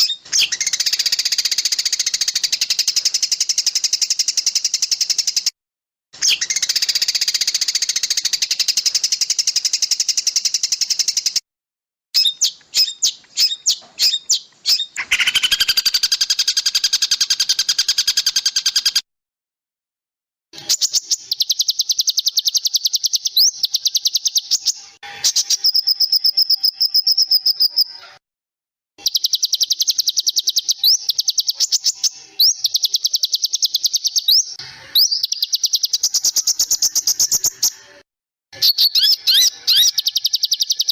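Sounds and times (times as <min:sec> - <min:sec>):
small songbirds trilling: 0:00.0 - 0:05.5, 0:06.2 - 0:11.4, 0:12.2 - 0:19.0, 0:20.6 - 0:28.2, 0:29.0 - 0:37.8, 0:38.6 - 0:40.9.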